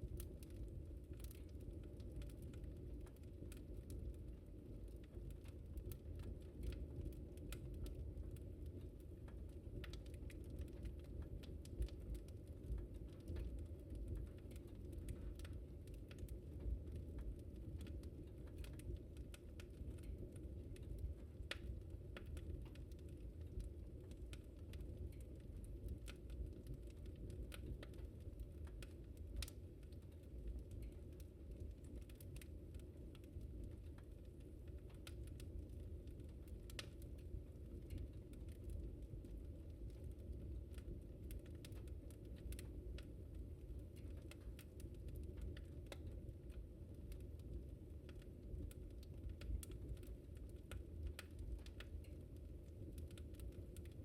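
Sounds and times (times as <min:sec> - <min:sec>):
burning logs crackling and popping: 0:00.0 - 0:54.0
low rumble of flames: 0:00.0 - 0:54.0.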